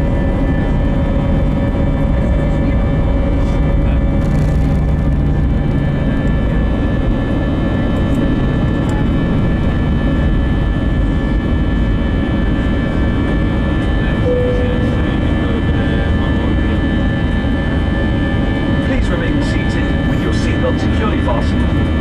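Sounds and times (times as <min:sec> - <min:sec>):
jet engine high whine: 0:00.0 - 0:22.0
jet engine rumble: 0:00.0 - 0:22.0.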